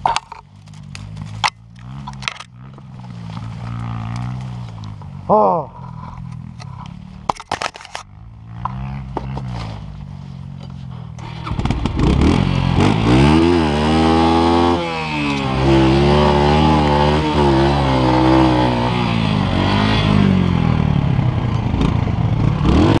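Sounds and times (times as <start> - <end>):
dirt bike engine revving: 1.0 - 7.3, 8.0 - 23.0.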